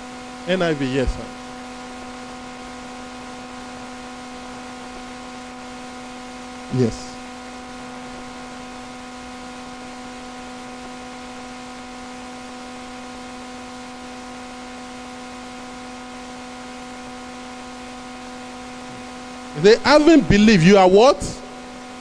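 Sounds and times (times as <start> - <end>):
electrical hum with fixed tones: 0.0 - 22.0.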